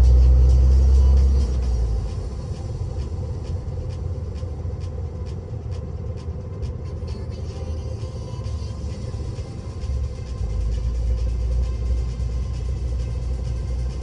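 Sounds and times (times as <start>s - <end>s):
truck engine rumble: 0.0s - 14.0s
tyre and road noise: 0.0s - 14.0s.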